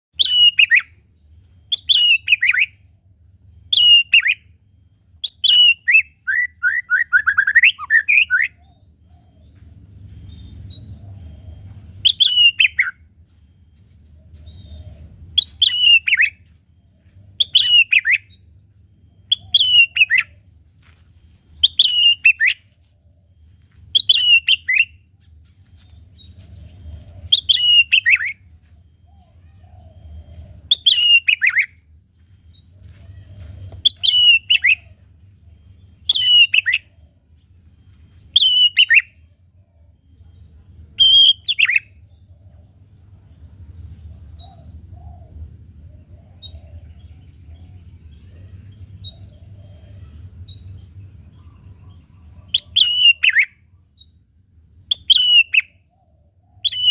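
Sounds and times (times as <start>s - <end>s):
faint low hum: 0.6s - 52.9s.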